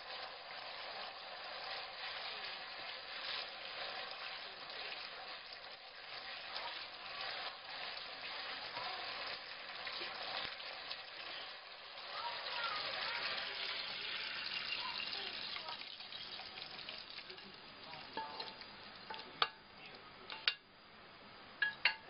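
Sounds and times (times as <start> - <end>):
sauce sizzling in a wok: 0.0 - 19.6.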